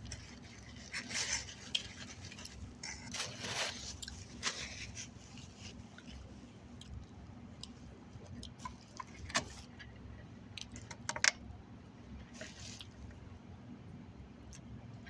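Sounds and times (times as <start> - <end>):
eating and food handling noises: 0.0 - 13.4
low steady hum: 0.0 - 15.0.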